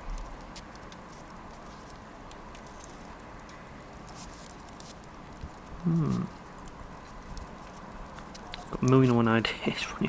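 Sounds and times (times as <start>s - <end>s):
low steady hiss: 0.0s - 10.0s
wood fire crackling and popping: 0.0s - 10.0s.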